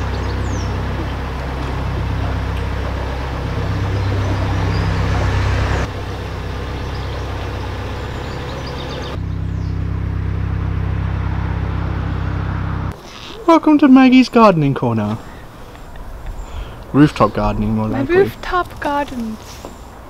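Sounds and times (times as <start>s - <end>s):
boat diesel engine humming: 0.0s - 20.0s.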